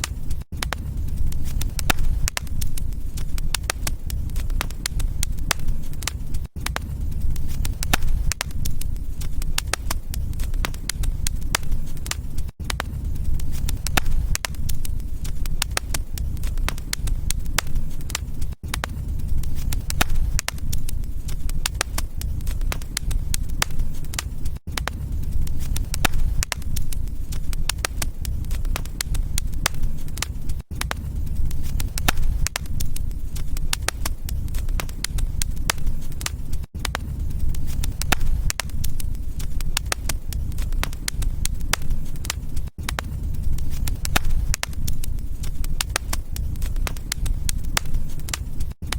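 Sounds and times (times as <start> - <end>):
low rumble of flames: 0.0 - 48.9
wood fire crackling: 0.0 - 48.9.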